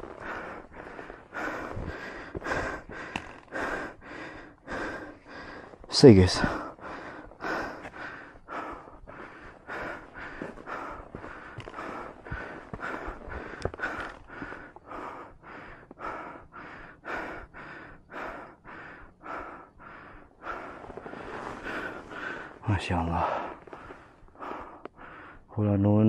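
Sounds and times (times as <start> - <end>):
person panting: 0.0 - 25.5.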